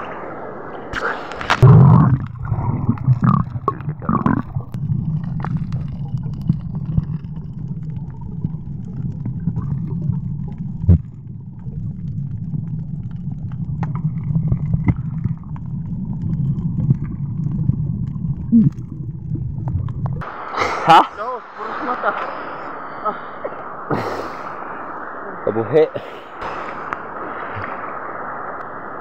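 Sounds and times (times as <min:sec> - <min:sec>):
muffled underwater sea rumble: 0:00.0 - 0:29.0.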